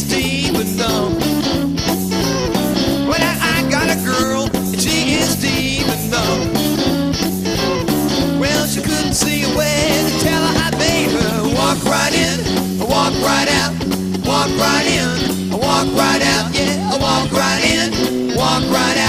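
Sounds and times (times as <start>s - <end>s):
bass: 0.0s - 19.0s
guitar lead with bending notes: 0.0s - 19.0s
drum kit steady beat: 0.6s - 19.0s.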